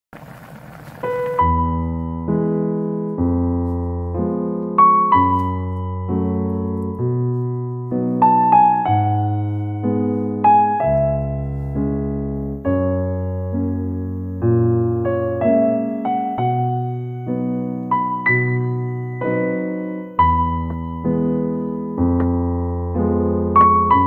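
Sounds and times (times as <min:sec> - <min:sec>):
electric piano melody: 0:00.2 - 0:24.0.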